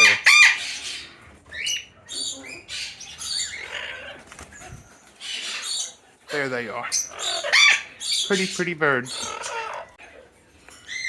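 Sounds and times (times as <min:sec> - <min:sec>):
parrots chirping and squawking: 0:00.0 - 0:11.0.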